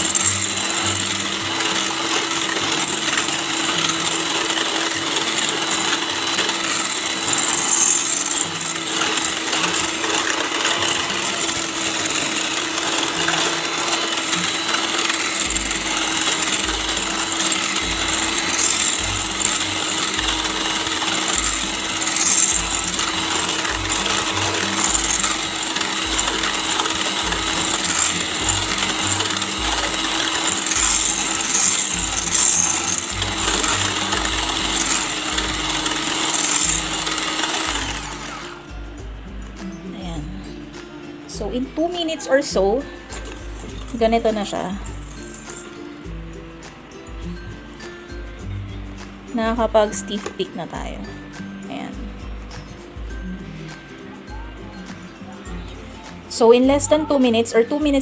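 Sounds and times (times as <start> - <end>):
electric hand mixer whirring: 0.0 - 39.3, 41.4 - 52.1.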